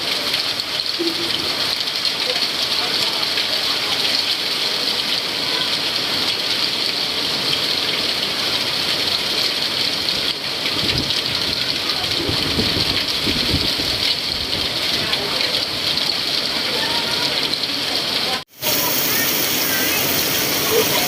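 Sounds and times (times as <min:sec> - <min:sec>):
hail and heavy rain pounding: 0:00.0 - 0:21.0.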